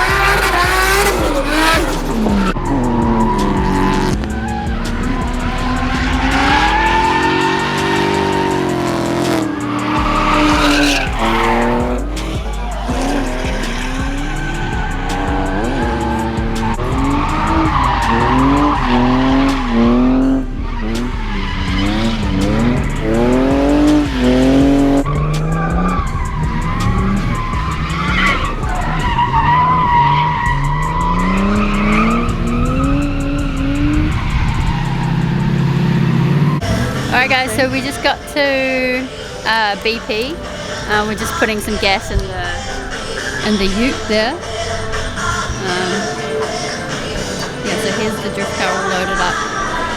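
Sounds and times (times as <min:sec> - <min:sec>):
background music with bass: 0:00.0 - 0:49.9
car engine revving hard: 0:00.0 - 0:49.9
tyres squealing: 0:00.0 - 0:49.9.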